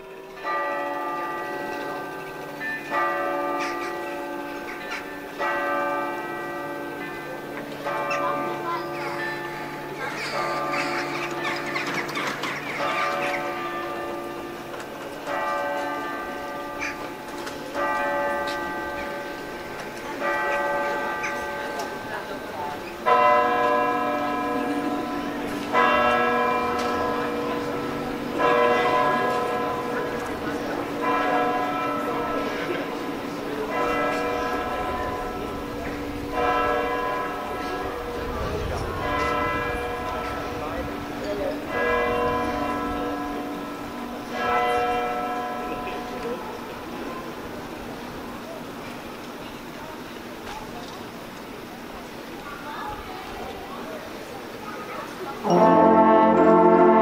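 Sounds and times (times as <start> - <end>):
church bells ringing: 0.0 - 50.7, 53.8 - 57.0.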